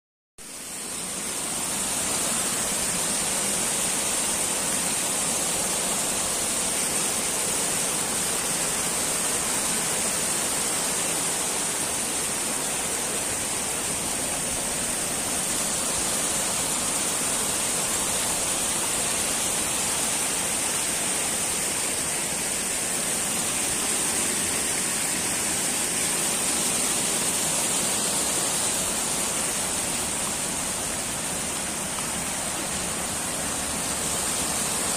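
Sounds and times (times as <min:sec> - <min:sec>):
floodwater rushing: 0:00.5 - 0:34.9.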